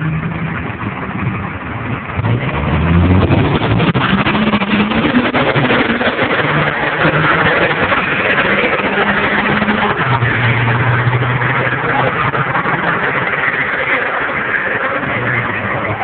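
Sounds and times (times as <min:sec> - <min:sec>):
loud rushing noise: 0:00.0 - 0:16.0
truck engine drone: 0:00.0 - 0:16.0.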